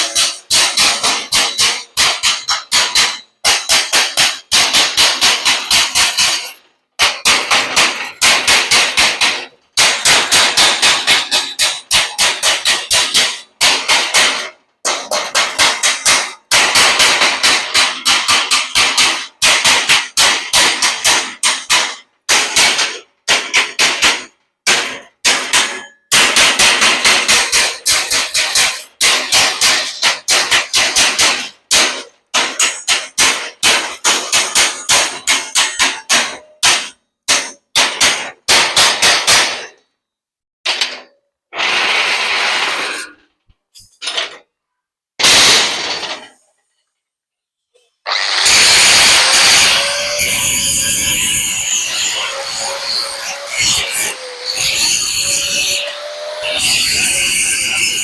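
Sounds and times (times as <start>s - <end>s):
chipping hammer striking metal: 0.0s - 39.8s, 48.5s - 58.0s.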